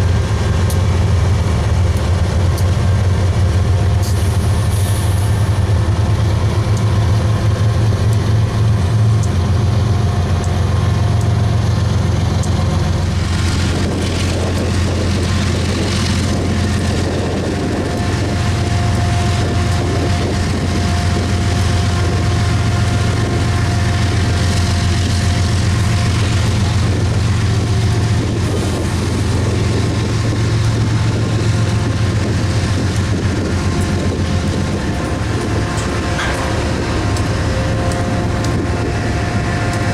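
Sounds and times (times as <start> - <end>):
diesel locomotive engine running: 0.0 - 39.9.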